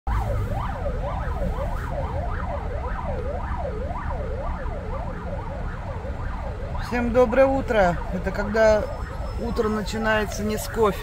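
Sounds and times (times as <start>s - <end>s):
low traffic rumble: 0.1s - 11.0s
siren wailing: 0.1s - 11.0s.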